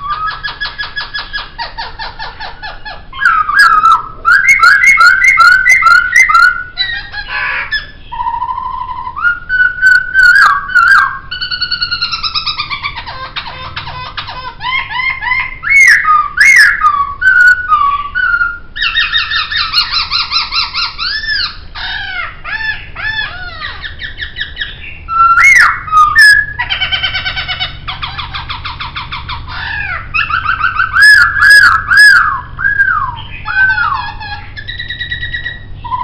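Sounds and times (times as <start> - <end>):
bird singing whistled song: 2.9 - 13.1, 14.6 - 36.0.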